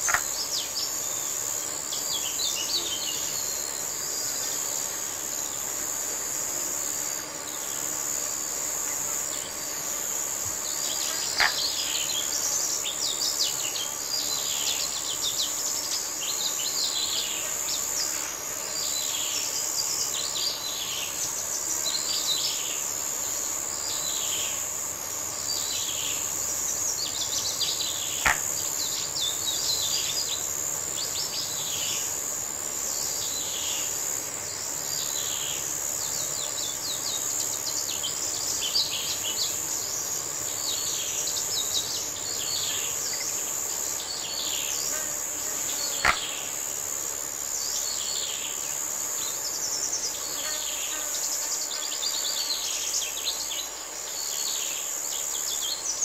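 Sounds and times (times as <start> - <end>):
insect trill: 0.0 - 56.0.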